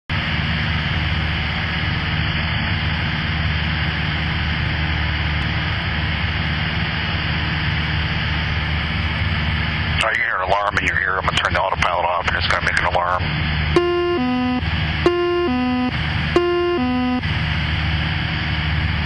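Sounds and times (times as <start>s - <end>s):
propeller aircraft engine drone: 0.1s - 19.0s.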